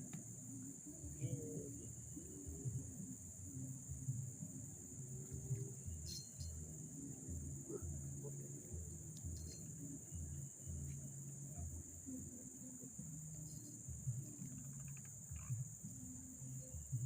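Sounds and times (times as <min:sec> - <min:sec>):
insects chirring: 0:00.0 - 0:17.0
low uneven rumble: 0:00.0 - 0:17.0.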